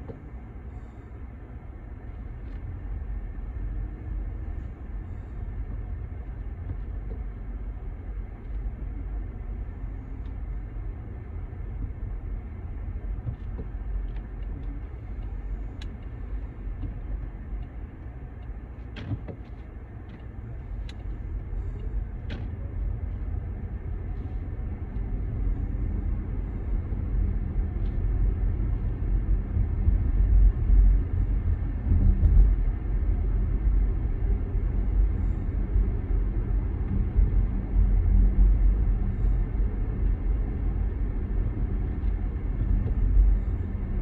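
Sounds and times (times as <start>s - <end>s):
vehicle rumble: 0.0s - 44.0s.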